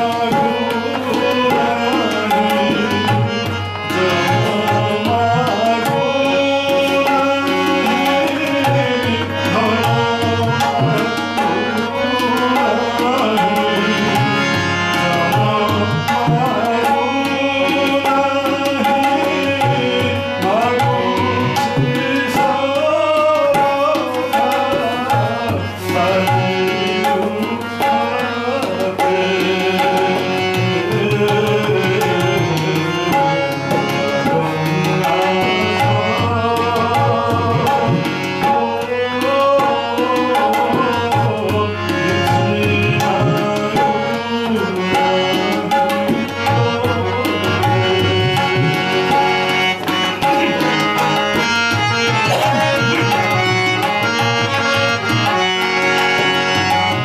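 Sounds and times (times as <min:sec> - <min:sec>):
harmonium: 0:00.0 - 0:57.0
man singing through microphone: 0:00.0 - 0:57.0
tabla drums playing beat: 0:00.0 - 0:57.0.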